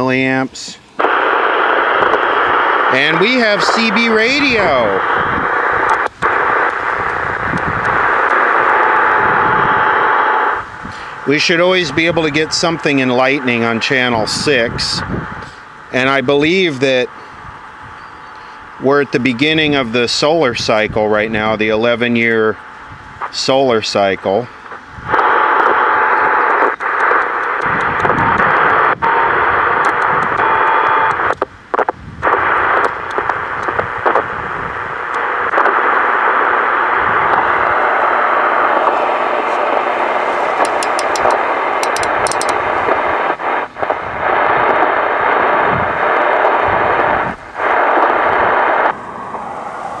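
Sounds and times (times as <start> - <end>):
radio static hiss: 0.0 - 50.0
static crackles: 0.0 - 50.0.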